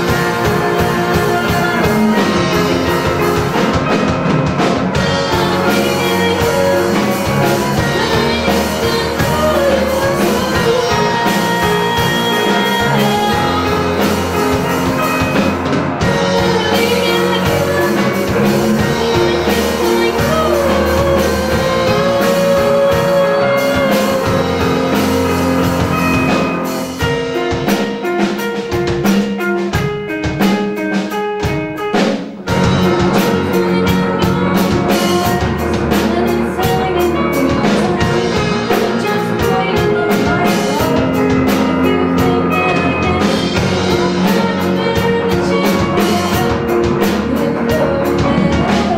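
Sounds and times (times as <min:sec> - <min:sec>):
girl singing lead: 0:00.0 - 0:04.1, 0:04.9 - 0:26.7, 0:32.5 - 0:48.9
electric guitars: 0:00.0 - 0:29.2, 0:32.4 - 0:48.9
drum kit: 0:00.0 - 0:48.9.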